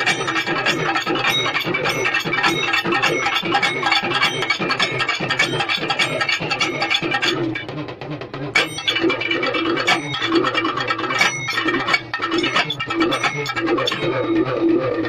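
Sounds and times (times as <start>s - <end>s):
drummers playing fast rhythm: 0.0s - 14.4s.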